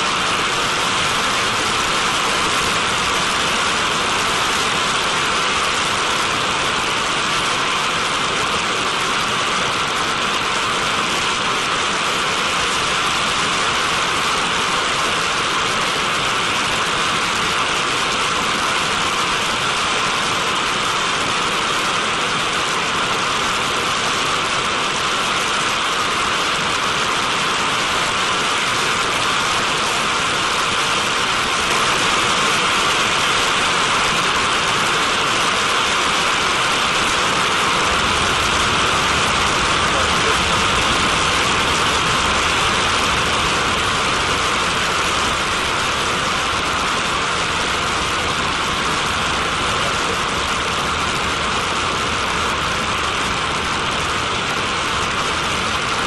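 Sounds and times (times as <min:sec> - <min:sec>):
turbojet engine hissing rush: 0:00.0 - 0:56.0.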